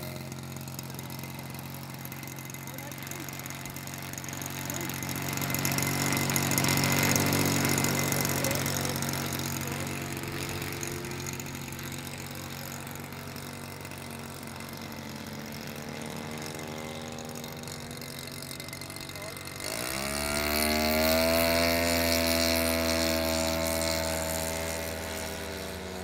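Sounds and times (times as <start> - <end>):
model plane engine idling: 0.0 - 26.0.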